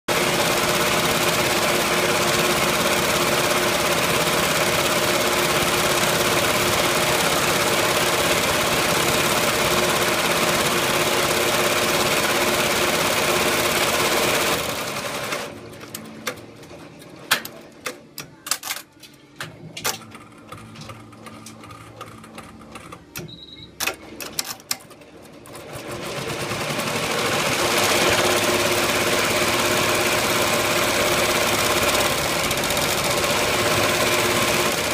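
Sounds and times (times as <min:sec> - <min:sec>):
embroidery machine stitching: 0:00.1 - 0:16.8, 0:19.9 - 0:34.9.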